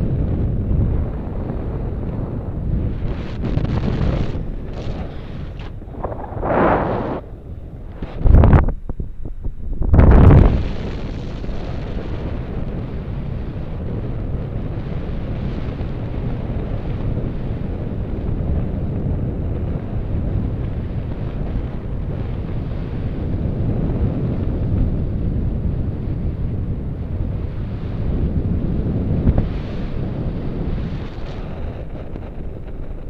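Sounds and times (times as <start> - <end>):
airflow rumbling over microphone: 0.0 - 33.0
wind gust: 0.0 - 33.0.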